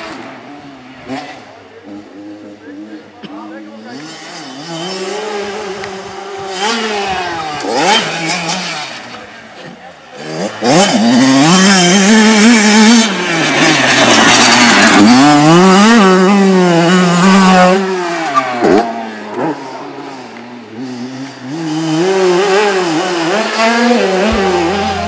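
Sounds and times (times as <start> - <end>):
two-stroke motorbike engine revving: 0.0 - 25.0.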